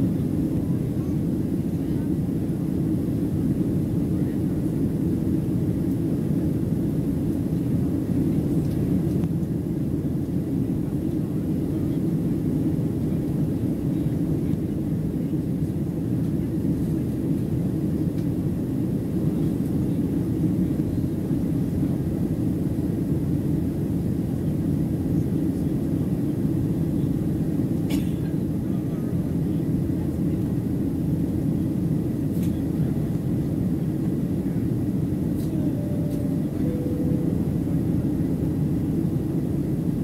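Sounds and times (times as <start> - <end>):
airplane cabin jet engine noise: 0.0 - 40.0.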